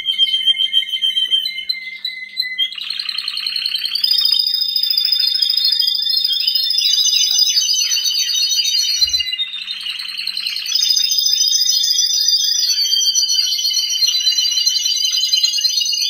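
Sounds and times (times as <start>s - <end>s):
canary singing trills: 0.0s - 16.0s.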